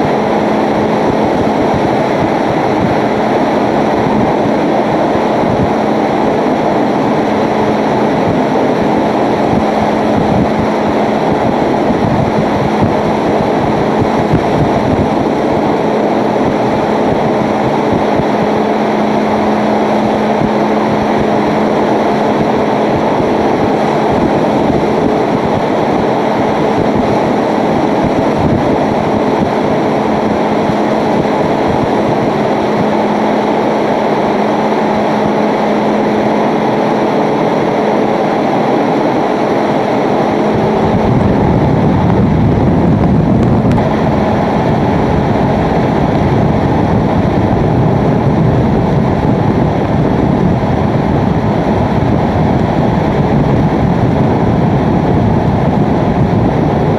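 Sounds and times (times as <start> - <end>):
low hum: 0.0 - 56.9
strong wind with rain: 0.0 - 56.9.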